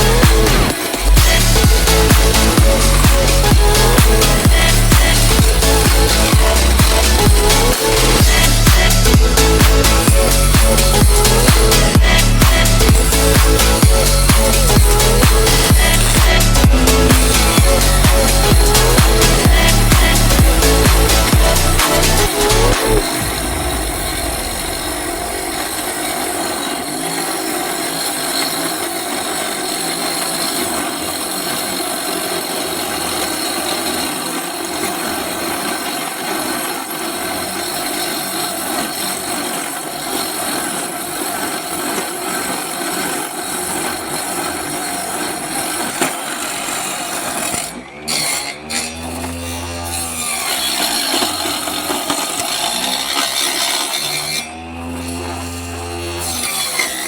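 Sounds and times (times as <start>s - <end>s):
table saw cutting wood: 0.0s - 57.0s.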